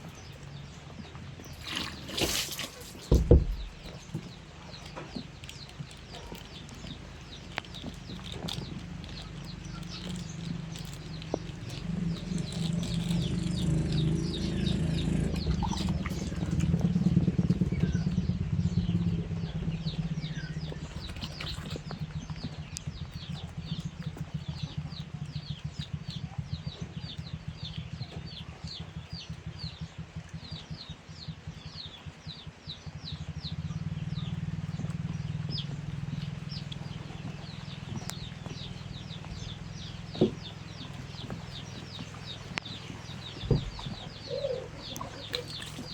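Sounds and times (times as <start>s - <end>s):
low steady rumble: 0.0s - 45.9s
small birds chirping: 0.0s - 45.9s.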